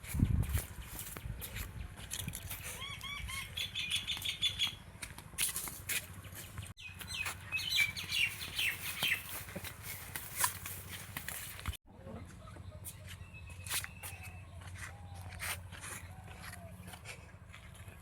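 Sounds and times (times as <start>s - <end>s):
birds chirping: 0.0s - 5.3s, 5.9s - 18.0s.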